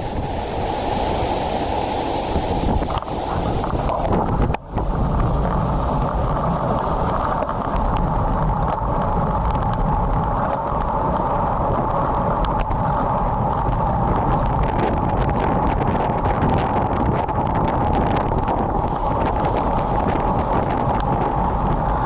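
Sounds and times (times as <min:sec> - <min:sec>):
wind rushing on microphone: 0:00.0 - 0:22.0
faint ticks: 0:02.8 - 0:22.0.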